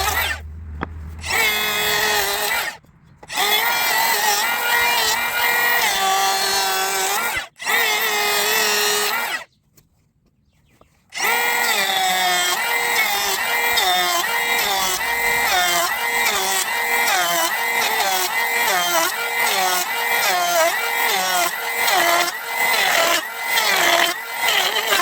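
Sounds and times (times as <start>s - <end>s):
hand planer motor whine: 0.0s - 0.4s, 1.0s - 9.5s, 11.1s - 25.0s.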